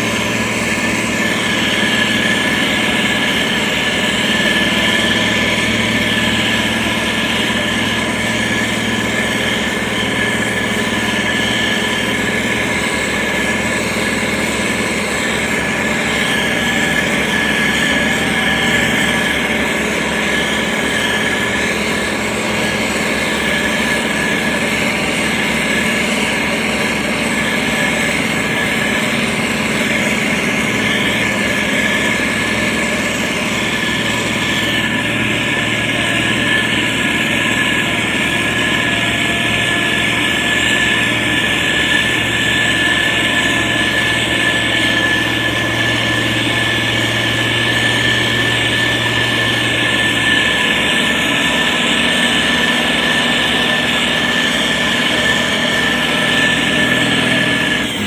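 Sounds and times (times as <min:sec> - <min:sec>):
constant high whine: 0:00.0 - 0:58.0
diesel engine running: 0:00.0 - 0:58.0.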